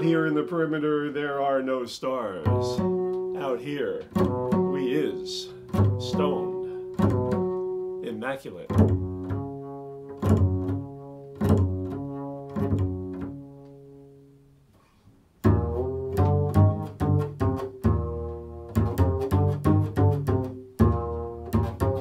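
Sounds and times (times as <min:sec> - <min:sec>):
plucked low string notes: 0:02.4 - 0:14.2, 0:15.4 - 0:22.0.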